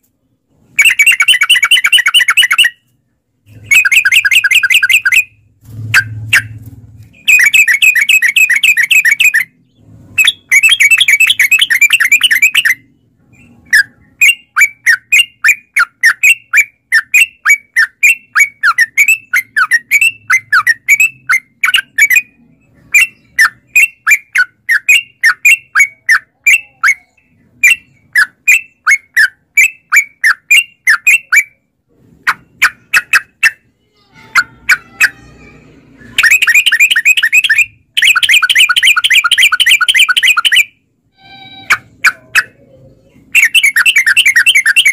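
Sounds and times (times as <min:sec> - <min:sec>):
bird singing: 0:00.2 - 0:02.9, 0:03.5 - 0:31.7, 0:34.4 - 0:44.9.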